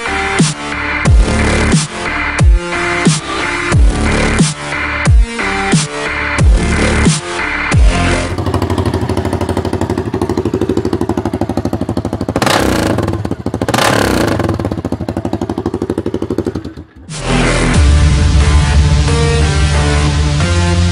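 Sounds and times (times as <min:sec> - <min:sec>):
electronic music: 0:00.0 - 0:13.0, 0:13.6 - 0:20.9
quad engine idling and revving: 0:00.0 - 0:20.9.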